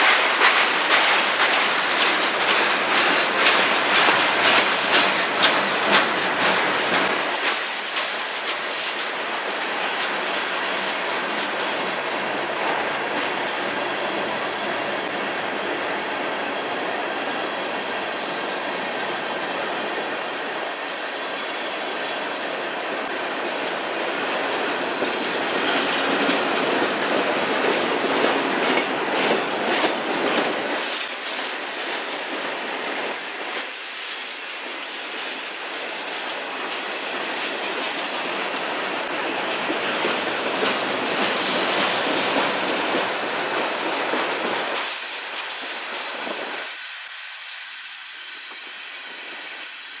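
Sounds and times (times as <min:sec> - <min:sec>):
wheels clacking over rail joints: 0:00.0 - 0:16.7, 0:20.8 - 0:46.8
train wheels rumbling on rail: 0:00.0 - 0:50.0.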